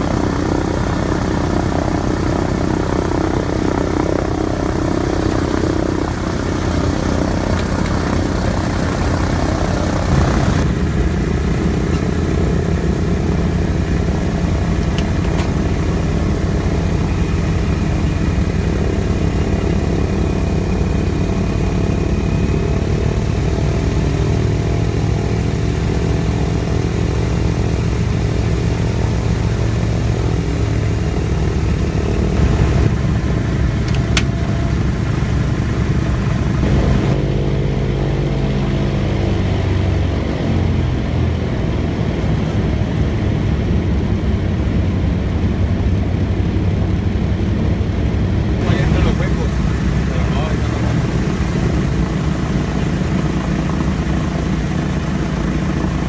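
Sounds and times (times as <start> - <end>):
piston engines droning: 0.0 - 56.0.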